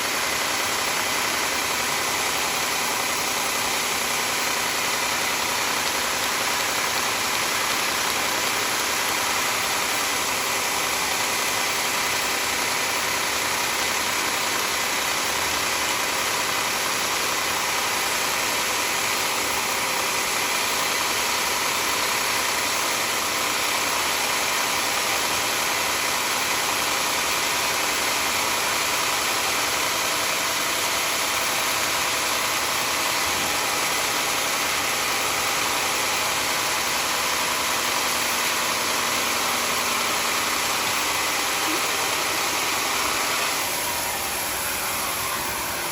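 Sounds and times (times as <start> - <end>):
sawmill machinery hum and whir: 0.0 - 45.9.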